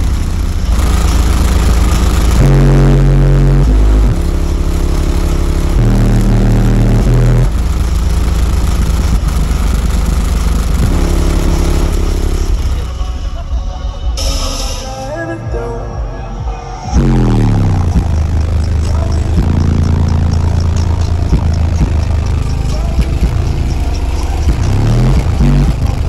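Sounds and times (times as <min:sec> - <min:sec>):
loud bass-heavy music: 0:00.0 - 0:26.0.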